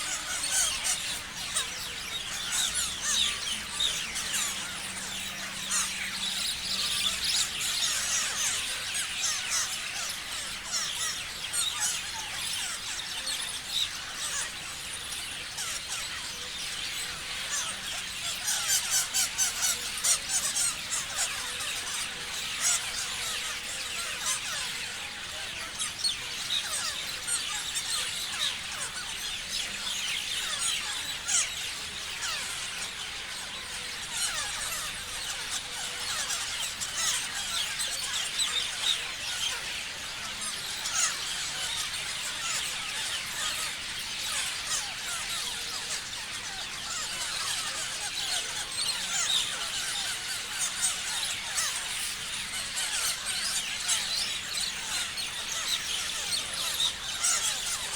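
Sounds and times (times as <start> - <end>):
parrots chirping and screeching: 0.0 - 57.9.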